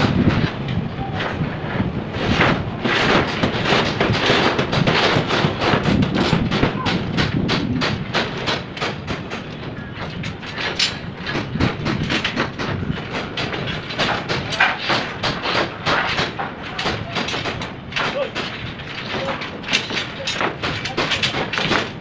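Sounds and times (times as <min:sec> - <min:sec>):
clattering and knocking: 0:00.0 - 0:22.0
steady rumble: 0:00.0 - 0:22.0.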